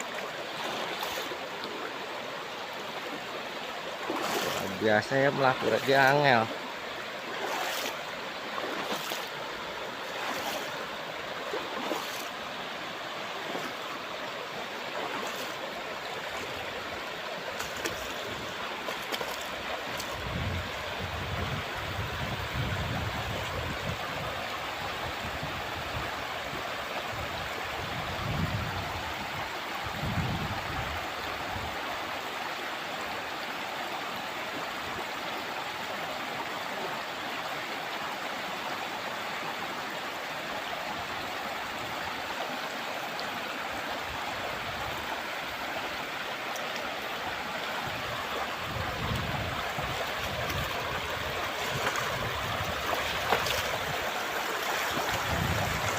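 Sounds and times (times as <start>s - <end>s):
river water flowing: 0.0s - 55.9s.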